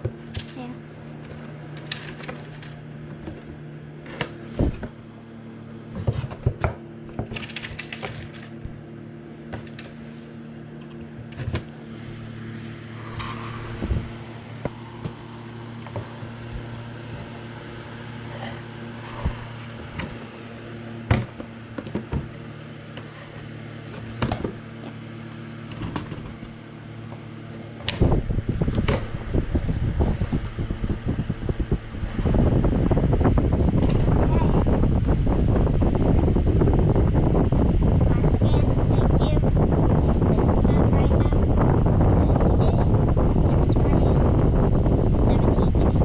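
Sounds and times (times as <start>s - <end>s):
fan humming: 0.0s - 46.0s.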